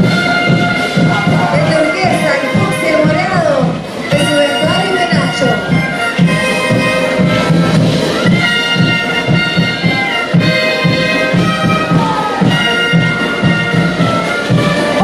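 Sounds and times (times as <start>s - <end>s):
steady drumbeat: 0.0s - 15.0s
wind instruments playing melody: 0.0s - 15.0s.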